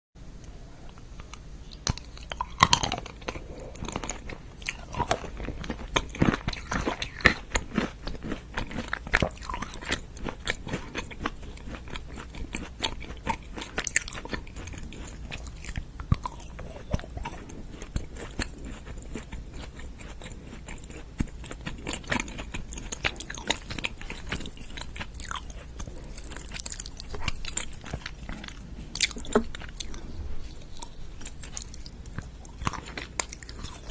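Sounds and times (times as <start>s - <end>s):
person chewing crunchy food: 0.8s - 33.9s.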